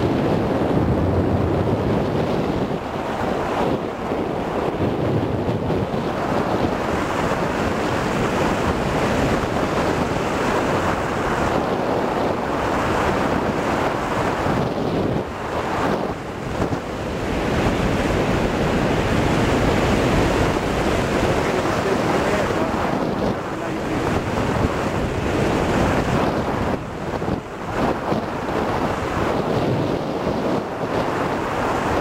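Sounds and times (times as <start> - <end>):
wind rushing on microphone: 0.0 - 32.0.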